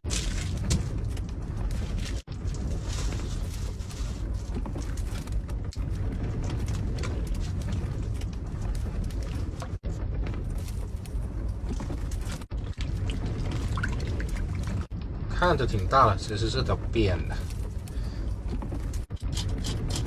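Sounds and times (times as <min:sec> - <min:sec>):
strong wind rumbling: 0:00.0 - 0:20.0.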